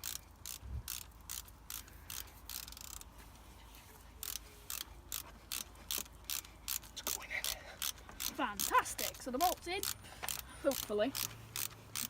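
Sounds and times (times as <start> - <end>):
socket ratchet clicking: 0.0 - 3.1, 4.2 - 12.0.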